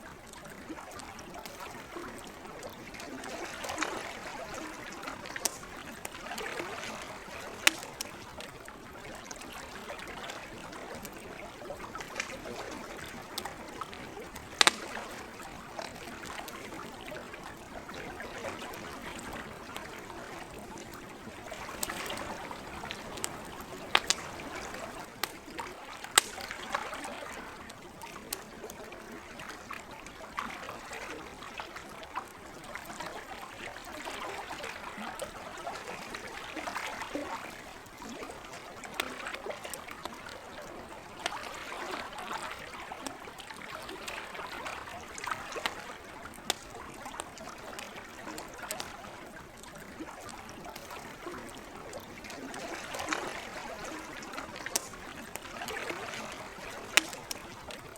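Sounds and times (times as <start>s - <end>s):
lake water lapping and trickling: 0.0s - 57.9s
campfire crackling and popping: 0.1s - 57.9s.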